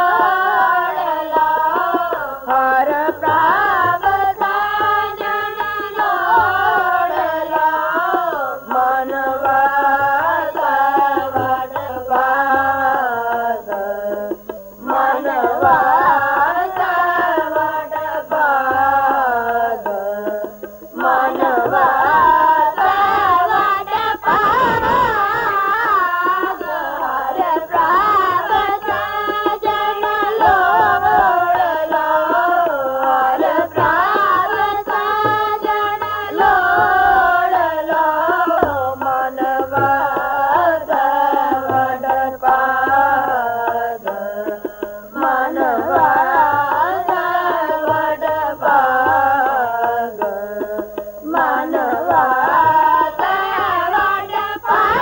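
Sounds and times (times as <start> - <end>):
boys singing a hymn: 0.0 - 55.0
harmonium: 0.0 - 55.0
tabla drumming: 0.0 - 55.0.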